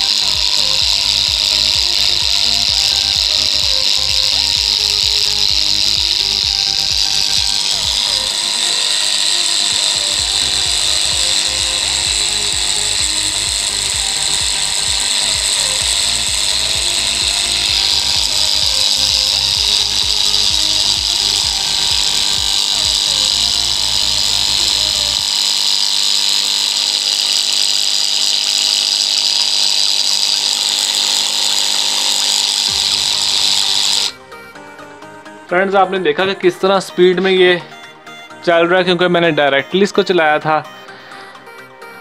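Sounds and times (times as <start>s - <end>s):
diaphragm pump buzzing and rattling: 0.0s - 42.0s.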